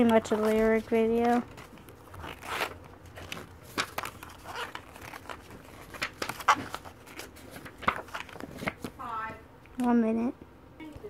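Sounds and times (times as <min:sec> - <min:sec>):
paper pages rustling: 0:00.0 - 0:09.0.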